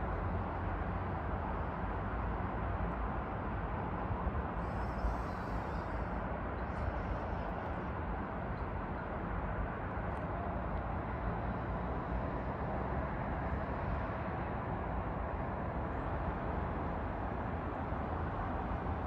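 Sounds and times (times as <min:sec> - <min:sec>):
distant road traffic hum: 0:00.0 - 0:19.0.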